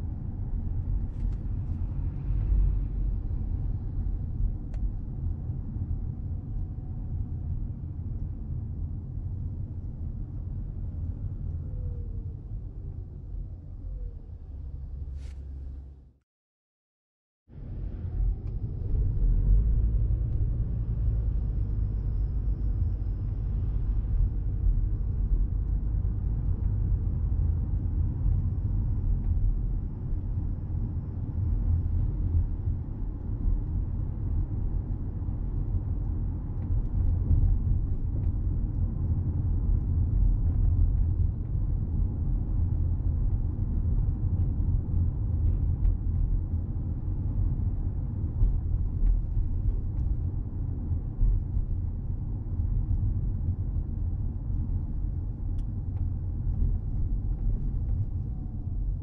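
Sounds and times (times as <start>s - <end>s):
road and tyre rumble in car: 0.0s - 16.2s, 17.5s - 59.0s.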